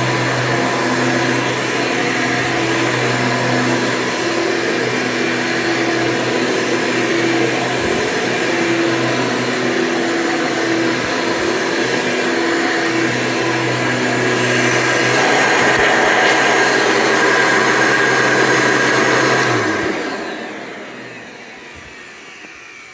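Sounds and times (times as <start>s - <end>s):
vacuum cleaner motor whirring: 0.0s - 22.9s.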